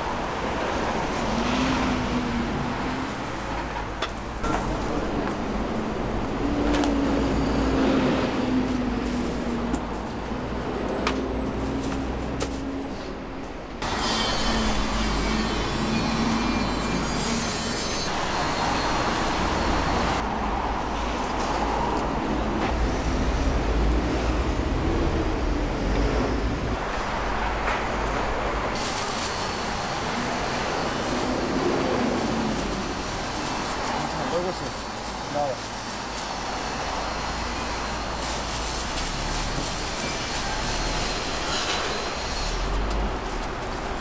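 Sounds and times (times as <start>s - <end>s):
rumble of street traffic: 0.0s - 44.0s.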